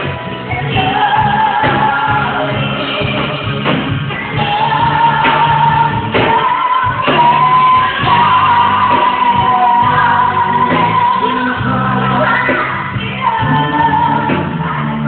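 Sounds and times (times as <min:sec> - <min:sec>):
backing music: 0:00.0 - 0:15.0.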